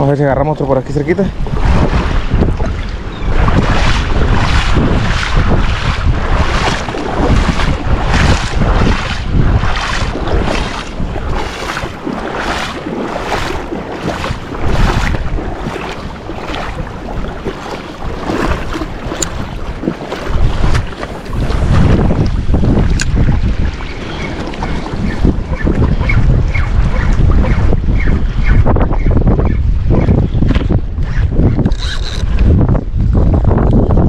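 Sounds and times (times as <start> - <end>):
surf: 0.0 - 31.6
wind buffeting microphone: 0.0 - 34.0.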